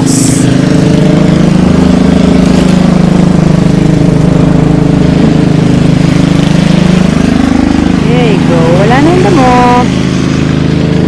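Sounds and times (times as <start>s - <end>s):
small petrol engine cutting grass: 0.0s - 11.0s.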